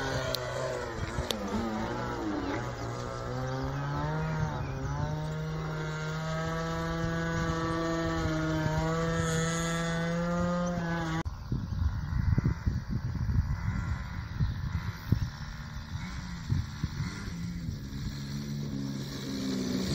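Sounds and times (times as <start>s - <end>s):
model plane engine: 0.0s - 11.2s, 12.2s - 19.9s.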